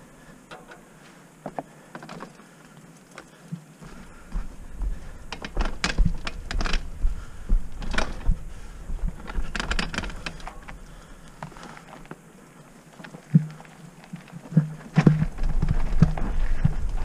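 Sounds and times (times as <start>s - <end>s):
bike tyres clicking and rattling: 0.5s - 17.0s.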